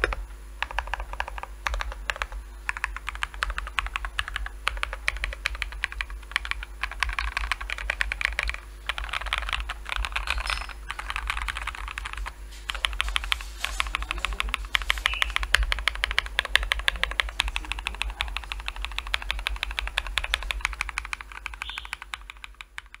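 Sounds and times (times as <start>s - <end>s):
mechanical keyboard typing: 0.0s - 23.0s.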